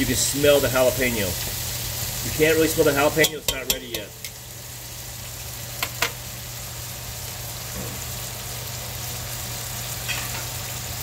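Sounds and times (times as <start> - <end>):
bacon sizzling in a pot: 0.0 - 11.0.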